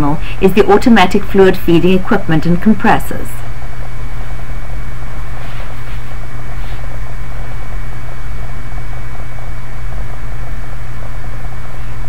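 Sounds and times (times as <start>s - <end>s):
loud hum and hiss: 0.0s - 12.0s
high-pitched whine: 2.0s - 12.0s.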